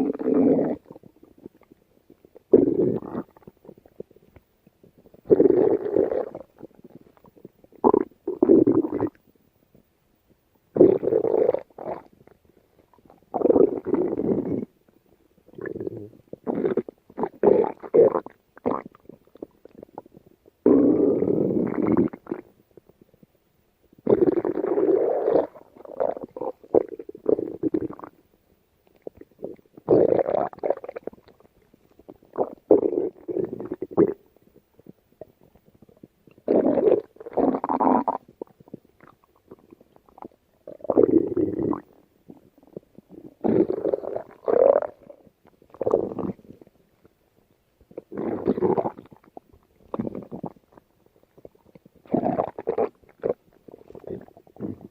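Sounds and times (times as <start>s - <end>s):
stomach growling and gurgling: 0.0s - 9.8s, 10.7s - 23.3s, 23.9s - 47.2s, 47.8s - 54.9s.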